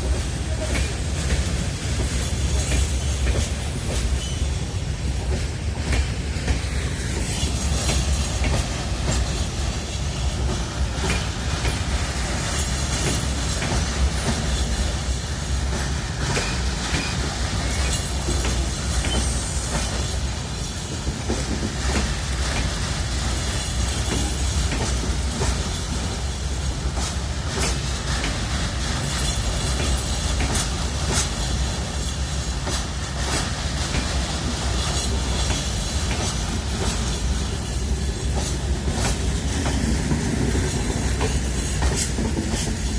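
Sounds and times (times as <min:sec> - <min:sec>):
train coaches rumbling past: 0:00.0 - 0:42.9.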